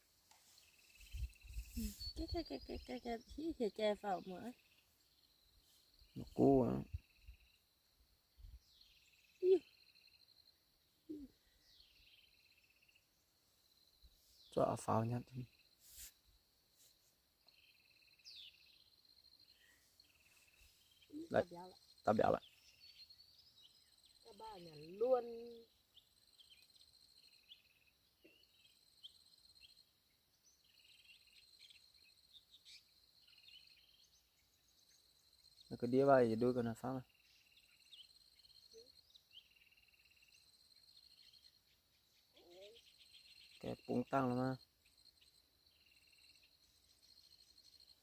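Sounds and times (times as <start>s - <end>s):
insects chirping in pulsed trills: 0.0s - 48.0s.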